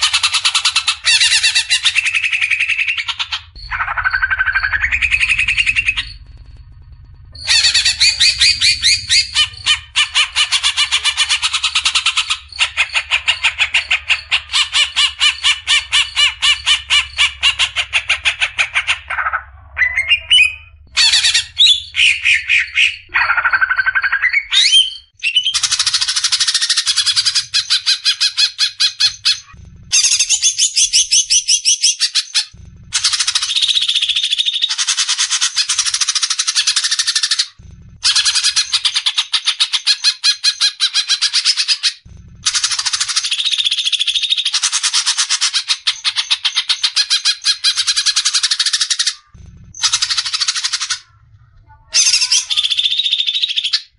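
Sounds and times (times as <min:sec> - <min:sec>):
bird chattering song: 0:00.0 - 0:53.9.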